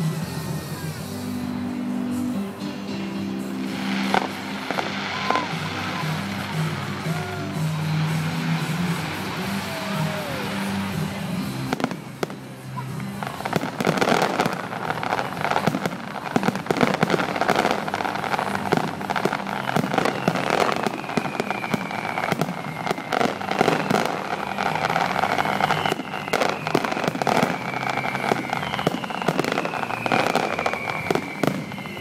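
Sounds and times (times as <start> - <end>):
fireworks bursts and bangs: 3.6 - 32.0
fireworks whistles gliding downward: 3.6 - 32.0.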